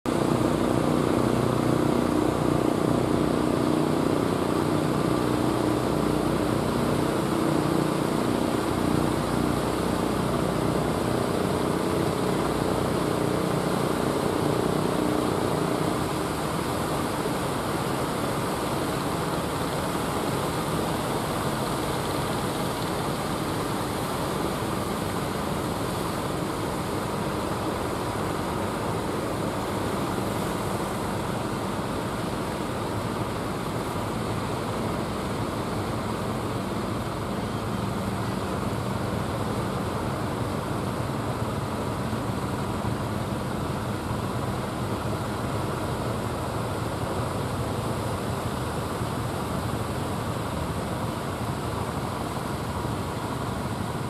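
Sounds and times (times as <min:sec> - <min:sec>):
wind: 0:00.0 - 0:54.0
boat engine drone: 0:00.1 - 0:54.0
surf washing: 0:00.1 - 0:54.0.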